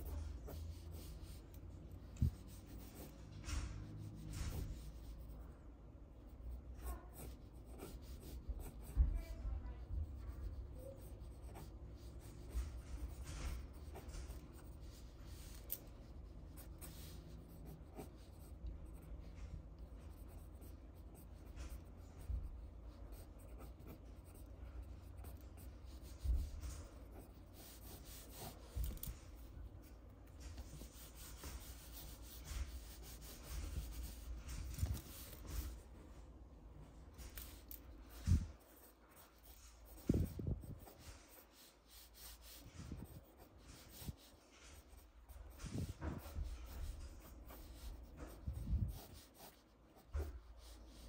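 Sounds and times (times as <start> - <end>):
pencil scratching on paper: 0.0 - 36.0, 37.0 - 51.0.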